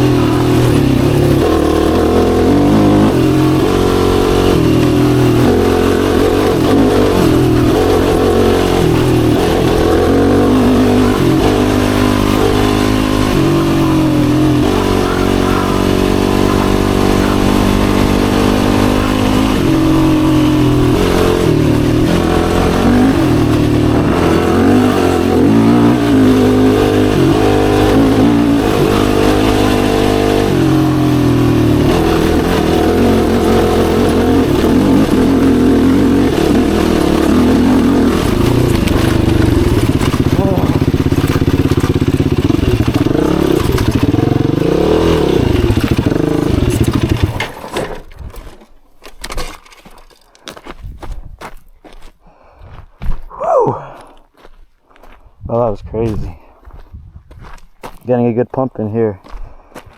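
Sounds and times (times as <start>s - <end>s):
quad bike engine revving: 0.0s - 48.2s.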